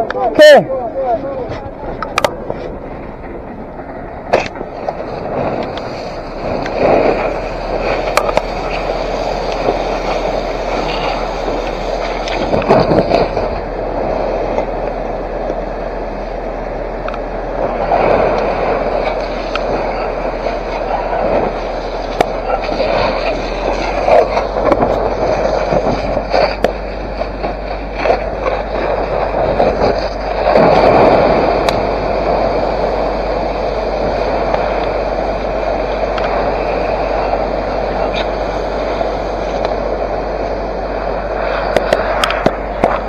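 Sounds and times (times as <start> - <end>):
fire crackling and popping: 0.0 - 43.0
fire hose water jet rushing: 1.2 - 43.0.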